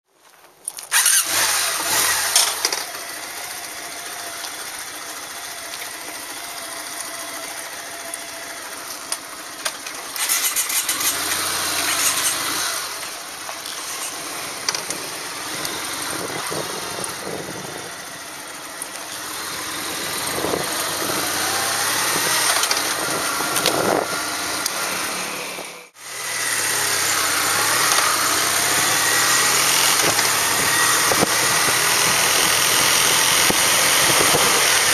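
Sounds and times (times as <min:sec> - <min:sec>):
motorcycle engine revving: 0:00.9 - 0:34.9.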